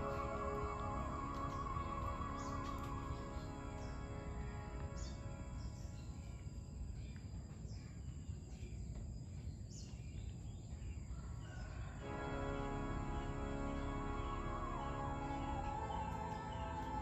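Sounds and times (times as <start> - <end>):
bird chirp: 0.0 - 17.0
faint background music: 0.0 - 17.0
steady low background noise: 0.0 - 17.0.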